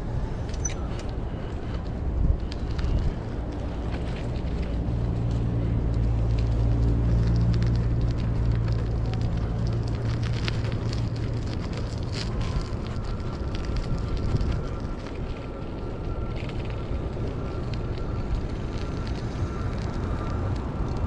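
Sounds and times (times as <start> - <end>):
vehicle engine rumble: 0.0 - 21.0
light crackles: 0.1 - 21.0.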